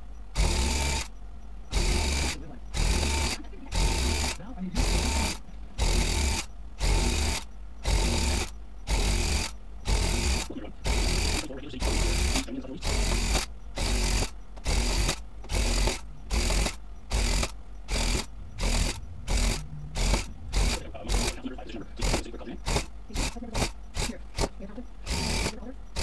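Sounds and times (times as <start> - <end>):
electric tufting gun bursts: 1.7 - 26.0.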